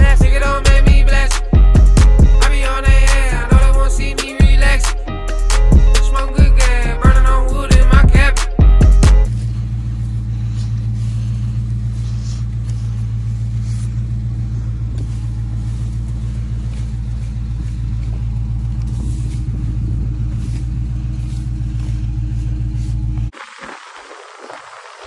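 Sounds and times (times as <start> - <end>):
car engine running: 0.0 - 23.4.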